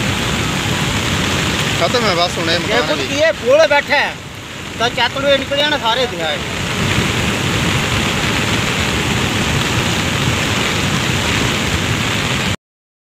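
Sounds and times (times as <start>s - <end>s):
flood water rushing: 0.0s - 12.6s.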